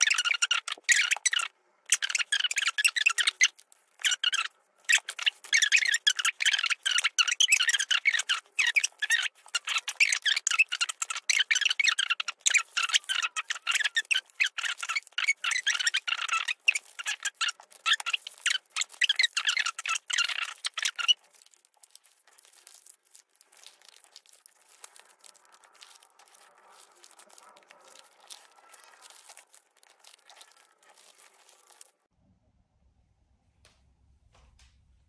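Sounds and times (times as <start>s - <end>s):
paper rustling and crinkling: 2.1s - 32.1s.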